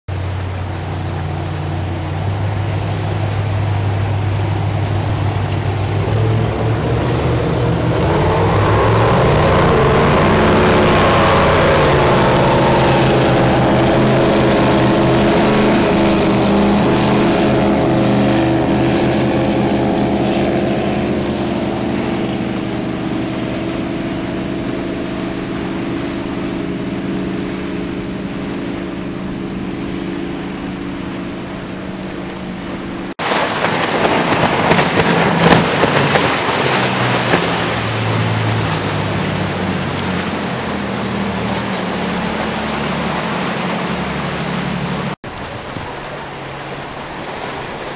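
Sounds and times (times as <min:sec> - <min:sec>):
speedboat engine running at speed: 0:00.1 - 0:47.9.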